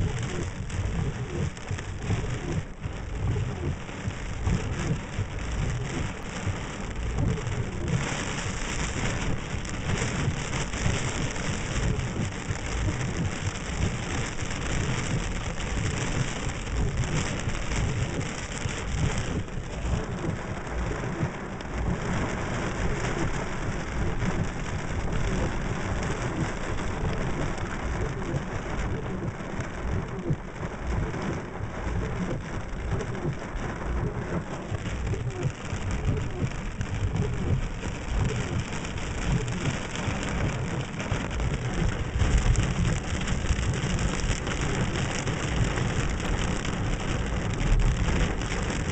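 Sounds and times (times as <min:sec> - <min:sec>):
deep rumble: 0:00.0 - 0:48.9
heavy rain pouring: 0:00.0 - 0:48.9.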